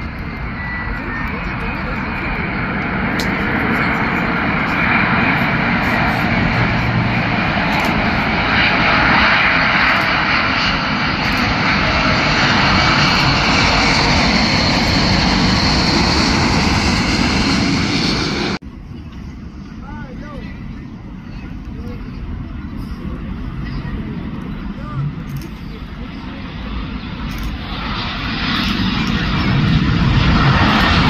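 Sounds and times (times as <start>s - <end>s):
jet plane passing overhead: 0.0s - 31.0s.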